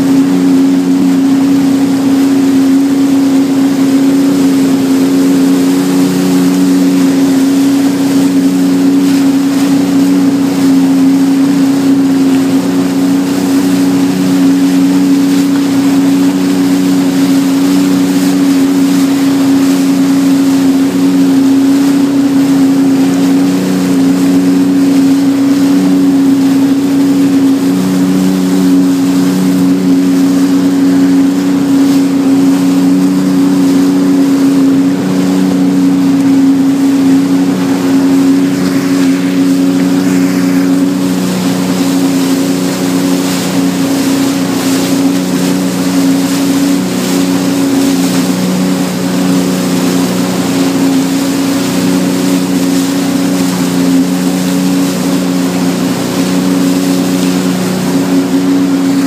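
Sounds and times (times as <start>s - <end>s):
watercraft engine running: 0.0s - 59.0s.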